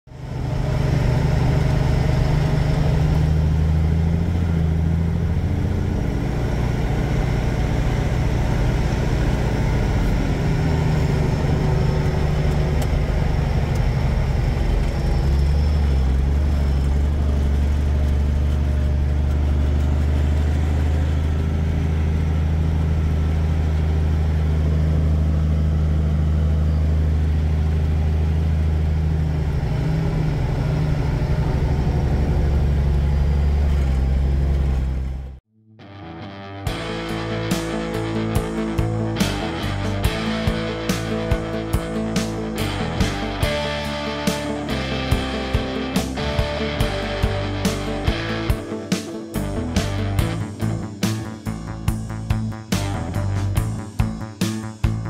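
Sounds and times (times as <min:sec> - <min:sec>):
truck engine running inside cab: 0:00.0 - 0:35.4, 0:36.7 - 0:55.0.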